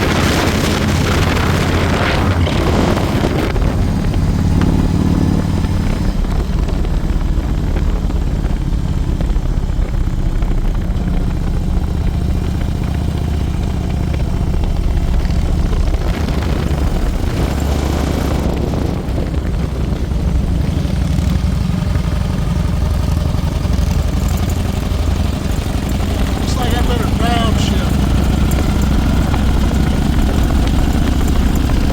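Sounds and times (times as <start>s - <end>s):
constant rushing noise: 0.0s - 31.9s
motorcycle engine drone: 0.0s - 31.9s.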